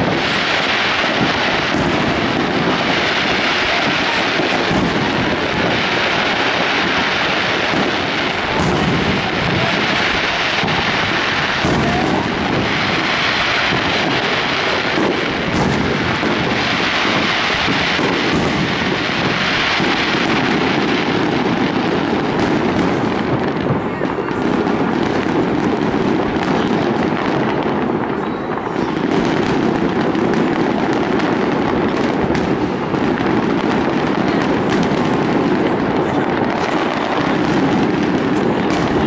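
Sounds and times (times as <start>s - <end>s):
distant fireworks rumbling: 0.0s - 39.0s
faint firework bangs: 0.0s - 39.0s.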